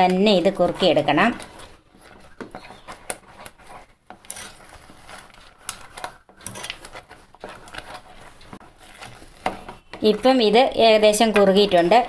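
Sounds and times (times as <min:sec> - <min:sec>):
spoon scraping and clinking in a pot: 0:00.1 - 0:12.0.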